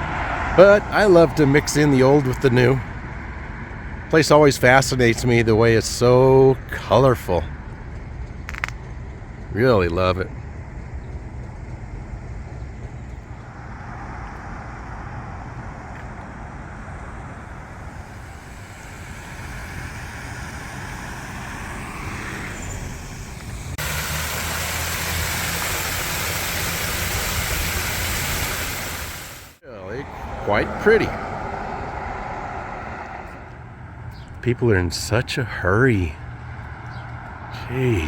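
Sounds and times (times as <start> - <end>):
cars driving by: 0.0 - 38.0.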